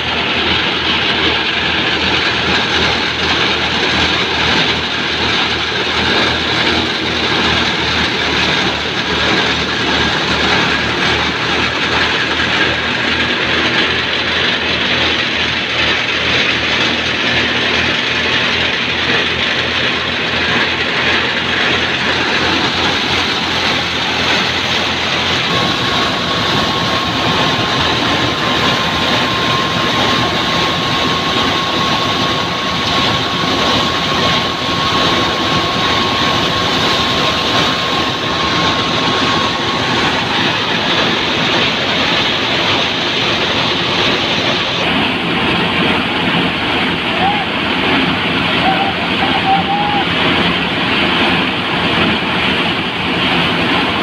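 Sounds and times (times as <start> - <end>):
steady high whine: 0.0 - 54.0
thresher mechanical din: 0.0 - 54.0
tractor engine: 0.0 - 54.0.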